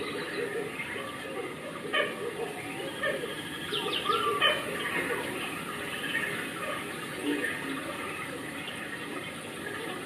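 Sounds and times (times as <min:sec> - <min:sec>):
faint scattered voices: 0:00.0 - 0:10.0.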